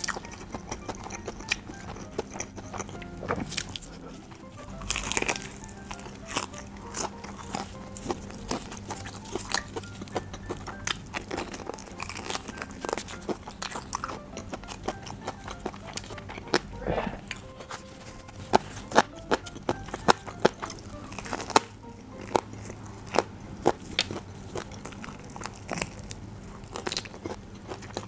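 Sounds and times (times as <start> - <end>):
crunchy chewing of fried chicken: 0.0 - 28.0
soft background music: 0.0 - 28.0.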